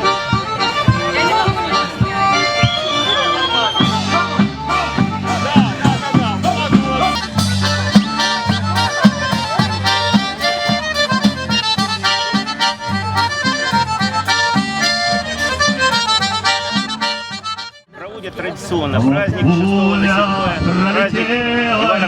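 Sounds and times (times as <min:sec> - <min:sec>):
accordion folk tune: 0:00.0 - 0:22.0.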